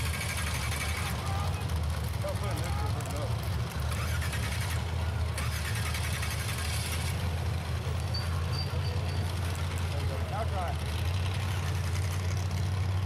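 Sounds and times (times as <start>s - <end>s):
buggy engine running: 0.0s - 13.0s.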